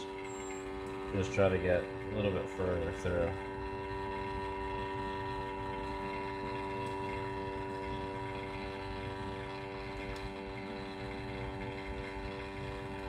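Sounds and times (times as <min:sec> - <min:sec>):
vacuum pump motor humming: 0:00.0 - 0:13.0.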